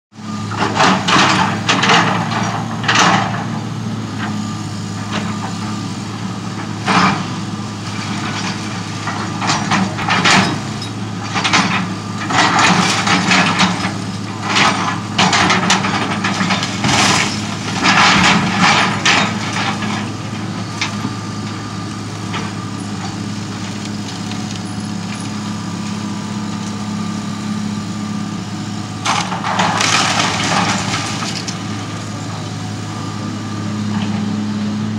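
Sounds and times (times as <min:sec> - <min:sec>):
excavator clatter: 0:00.2 - 0:26.9, 0:28.9 - 0:32.9, 0:33.5 - 0:34.9
excavator diesel engine running: 0:00.2 - 0:34.9.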